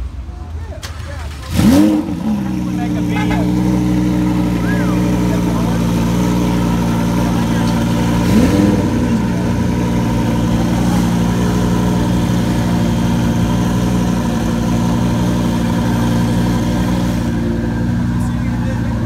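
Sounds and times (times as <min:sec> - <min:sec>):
sports car engine idling: 0:00.0 - 0:19.0.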